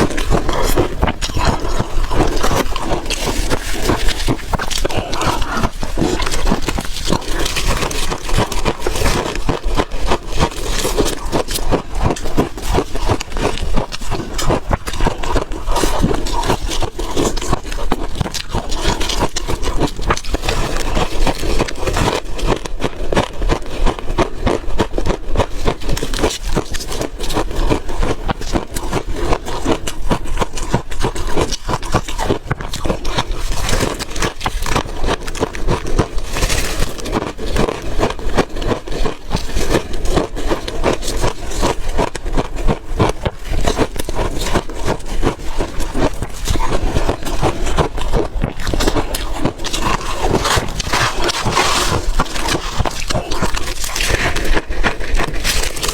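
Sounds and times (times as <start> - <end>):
ice crunching and chewing: 0.0 - 55.9.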